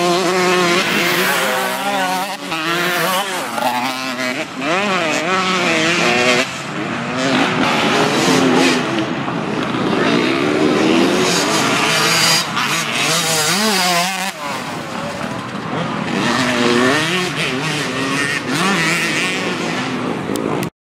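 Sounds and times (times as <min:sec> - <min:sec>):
dirt bike engines revving: 0:00.0 - 0:20.7.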